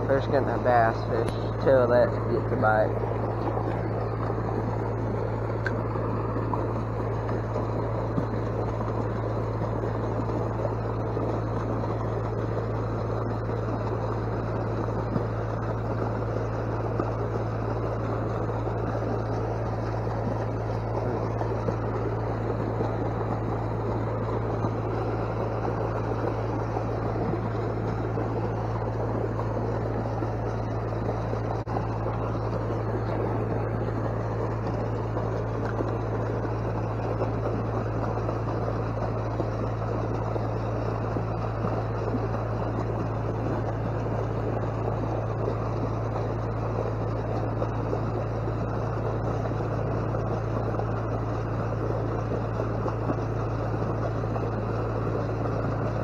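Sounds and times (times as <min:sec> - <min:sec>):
low hum: 0:00.0 - 0:56.0
water pouring from pipe: 0:00.0 - 0:56.0.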